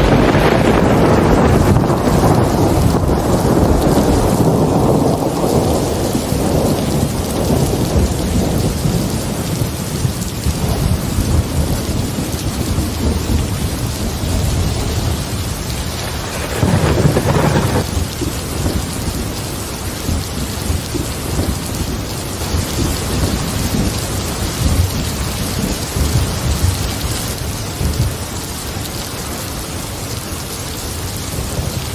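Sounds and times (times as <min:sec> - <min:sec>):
rolling thunder: 0:00.0 - 0:28.4
heavy rain pouring: 0:00.0 - 0:31.9.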